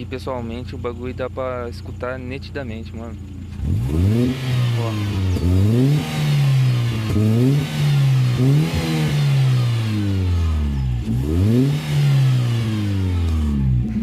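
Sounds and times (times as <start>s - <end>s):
car engine revving: 0.0s - 14.0s
engine hiss: 0.3s - 14.0s.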